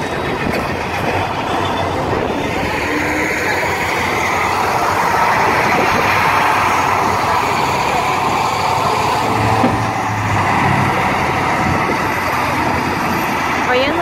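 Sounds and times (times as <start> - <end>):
truck diesel engine passing: 0.0 - 14.0.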